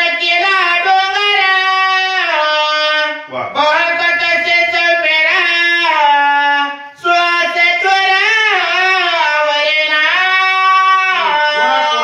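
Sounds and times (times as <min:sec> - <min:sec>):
man singing long notes: 0:00.0 - 0:12.0.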